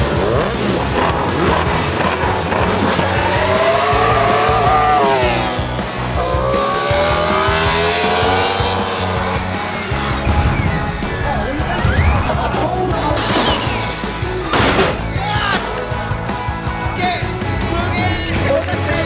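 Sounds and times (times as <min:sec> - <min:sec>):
background music: 0:00.0 - 0:19.0
motorcycle engines revving: 0:00.0 - 0:19.0.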